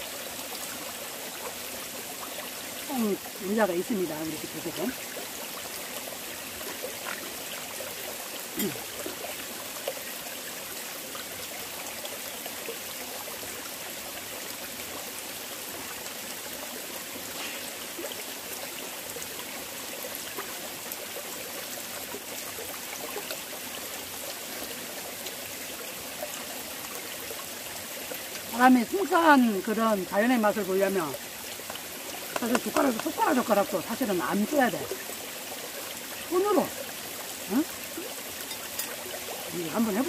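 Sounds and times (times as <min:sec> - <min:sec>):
stream babbling over rocks: 0:00.0 - 0:40.0.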